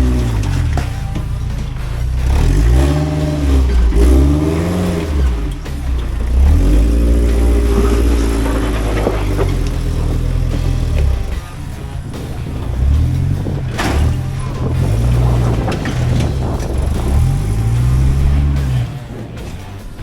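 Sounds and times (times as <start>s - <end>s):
engine revving under load: 0.0s - 20.0s.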